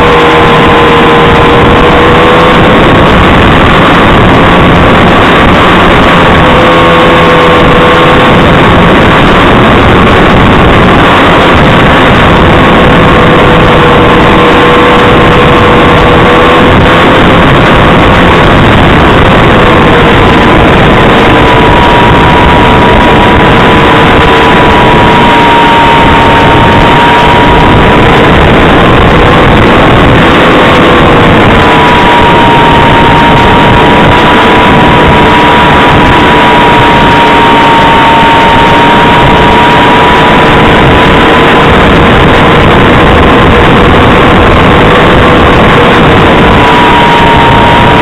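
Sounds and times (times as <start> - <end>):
electric motor whine: 0.0 - 48.0.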